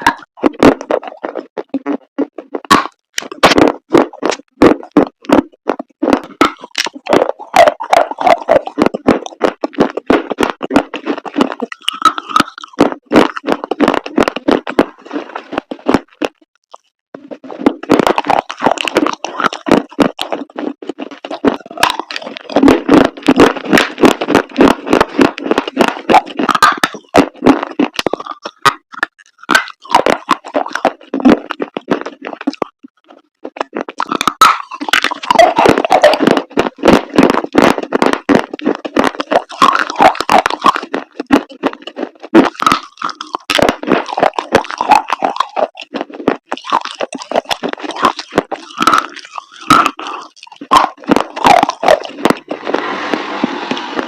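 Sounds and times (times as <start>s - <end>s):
dried chalk paste crunching: 0.0s - 54.0s.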